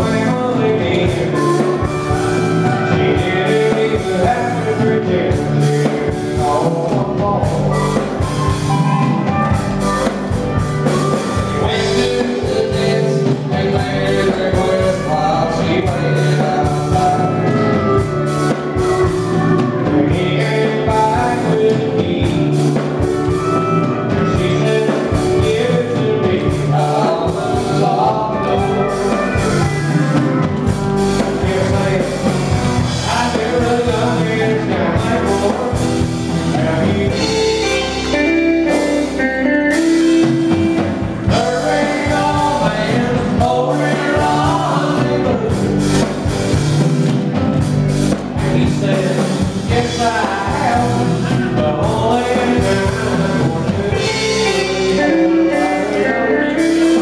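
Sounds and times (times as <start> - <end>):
drums steady beat: 0.0 - 57.0
man singing: 0.0 - 57.0
strummed guitar: 0.0 - 57.0.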